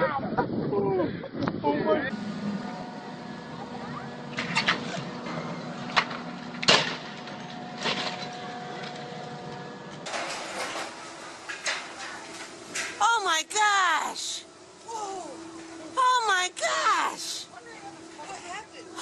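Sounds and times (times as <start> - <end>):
steady hum: 1.1 - 19.0.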